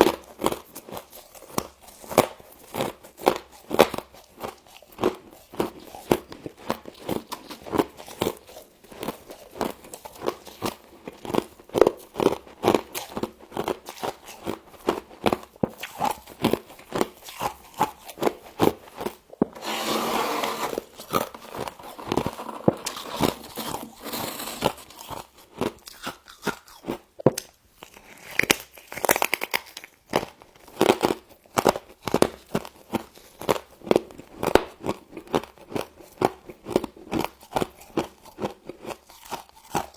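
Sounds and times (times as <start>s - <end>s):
frost crunching while chewed: 0.0s - 19.6s, 20.8s - 39.9s.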